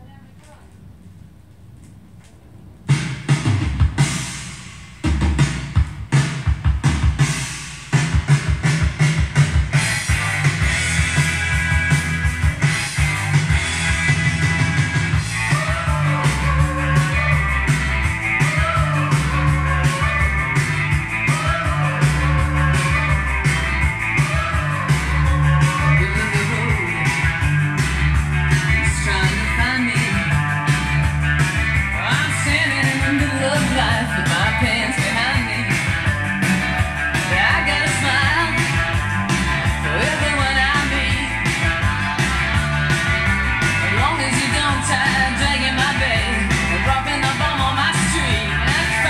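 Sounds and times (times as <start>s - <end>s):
rock music over loudspeakers: 2.9s - 49.0s.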